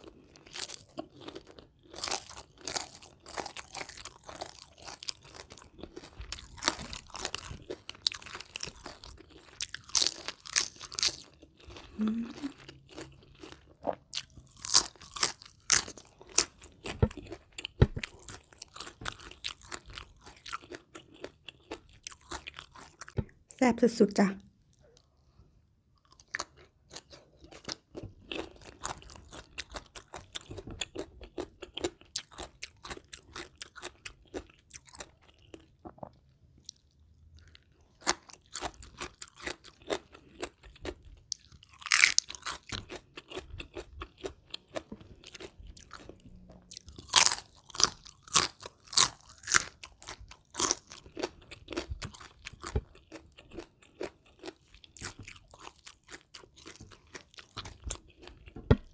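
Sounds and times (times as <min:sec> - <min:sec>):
chewing and crunching crisp food: 0:00.0 - 0:23.5, 0:24.2 - 0:58.9.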